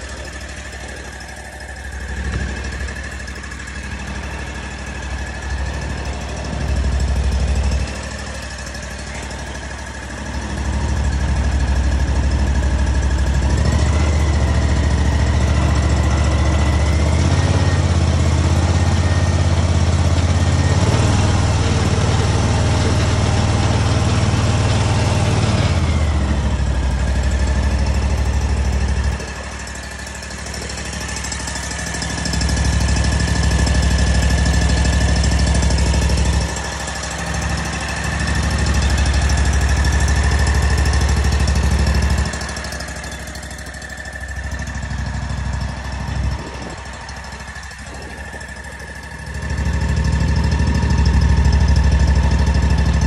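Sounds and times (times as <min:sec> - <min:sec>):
mower engine revving: 0:00.0 - 0:53.0.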